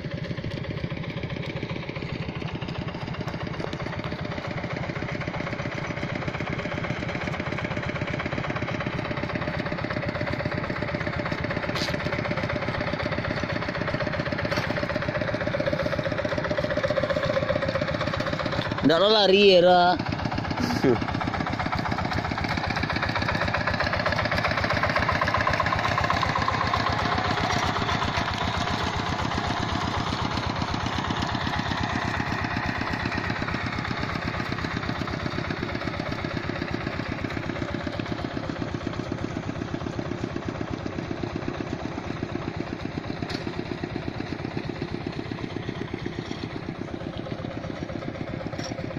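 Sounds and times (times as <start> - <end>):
hand tractor engine running: 0.0 - 48.9.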